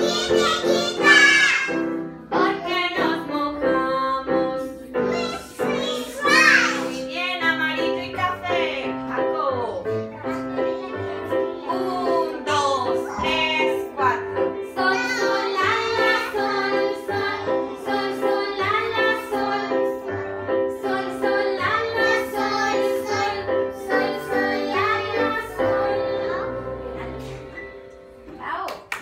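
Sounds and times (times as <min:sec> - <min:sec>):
children and woman singing: 0:00.0 - 0:09.1, 0:09.8 - 0:27.5.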